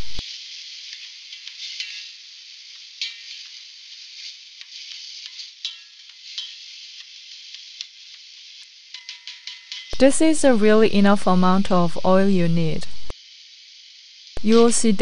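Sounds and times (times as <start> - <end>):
onion and garlic sizzling in oil: 0.0 - 15.0.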